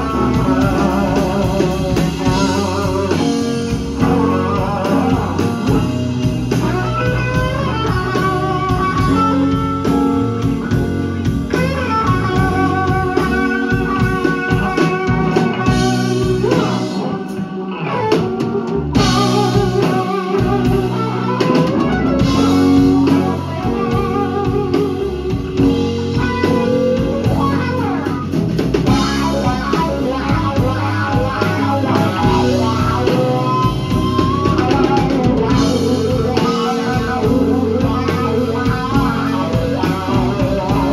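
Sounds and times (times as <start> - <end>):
drum kit: 0.0 - 40.9
electric guitar blues solo: 0.0 - 40.9.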